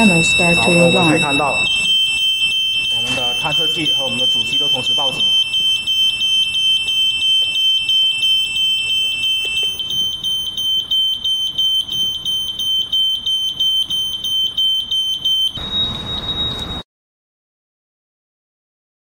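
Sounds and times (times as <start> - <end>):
pulsing electronic alarm tones: 0.0 - 16.8.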